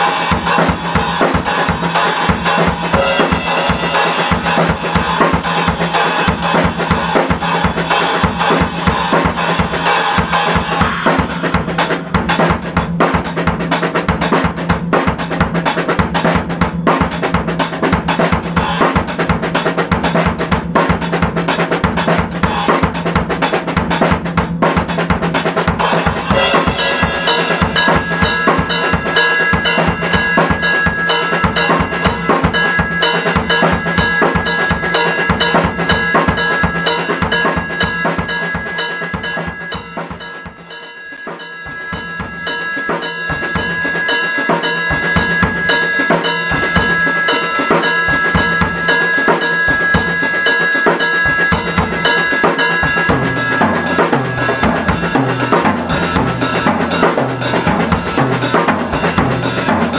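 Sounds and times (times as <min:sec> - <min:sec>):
acoustic drum kit groove: 0:00.0 - 0:59.9.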